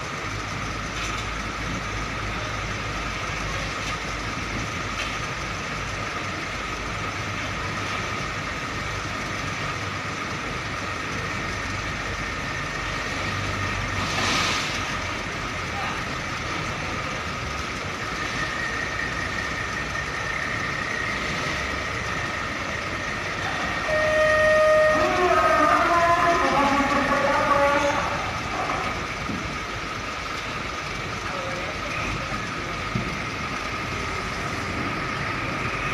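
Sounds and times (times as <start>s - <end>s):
diesel truck engines running: 0.0s - 35.9s.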